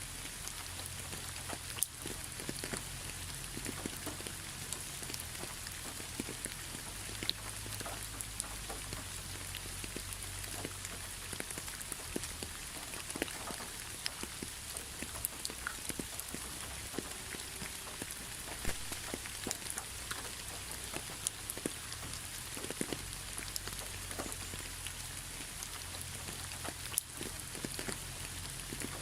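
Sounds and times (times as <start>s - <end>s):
rain pattering on surface: 0.0s - 29.0s.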